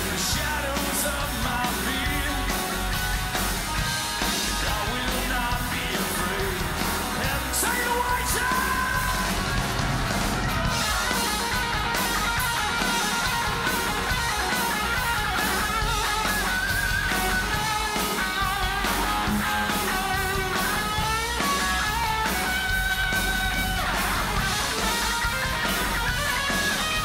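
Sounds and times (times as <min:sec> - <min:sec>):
rock band backing: 0:00.0 - 0:27.0.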